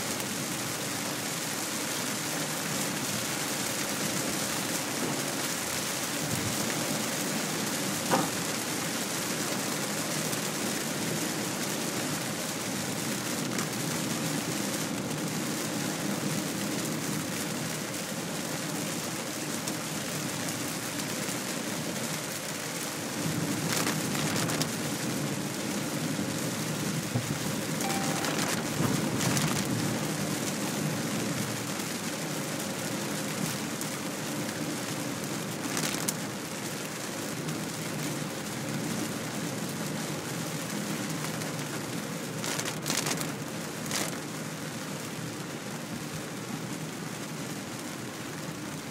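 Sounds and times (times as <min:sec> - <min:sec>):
heavy rain on car roof: 0:00.0 - 0:48.9.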